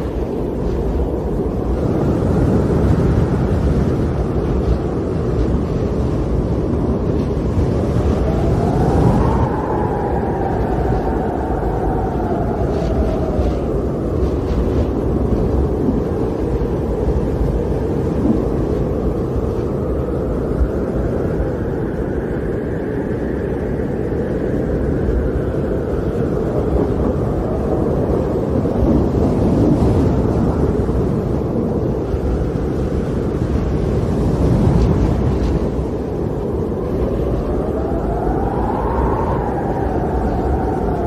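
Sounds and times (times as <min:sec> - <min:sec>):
storm wind blowing: 0:00.0 - 0:41.0.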